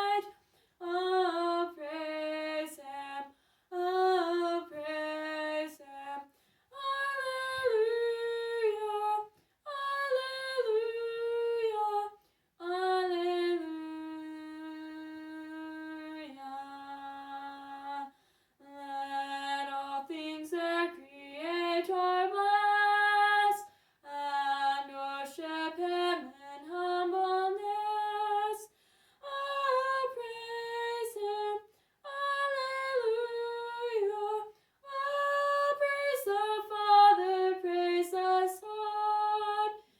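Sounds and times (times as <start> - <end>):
woman singing: 0.0 - 39.9.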